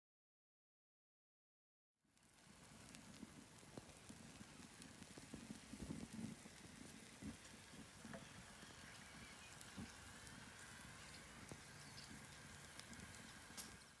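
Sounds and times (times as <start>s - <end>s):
charcoal fire sizzling and crackling: 2.0s - 14.0s.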